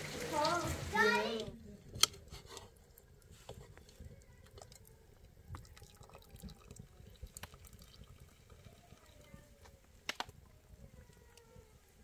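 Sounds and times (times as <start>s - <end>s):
faint drips: 0.0s - 12.0s.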